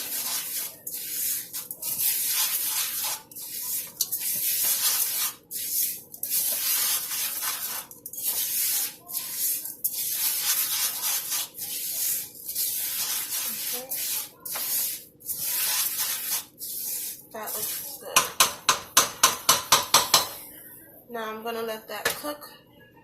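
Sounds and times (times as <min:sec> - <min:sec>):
rice stirred in sizzling oil: 0:00.0 - 0:20.3.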